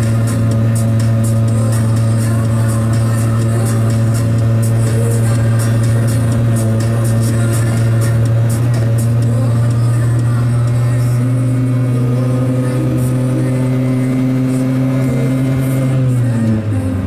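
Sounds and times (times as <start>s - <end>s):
small two-stroke engine running: 0.0s - 17.0s.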